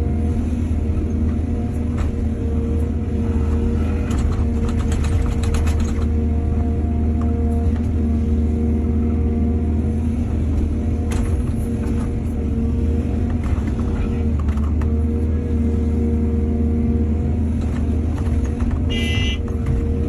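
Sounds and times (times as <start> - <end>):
heavy diesel engine humming: 0.0 - 20.0.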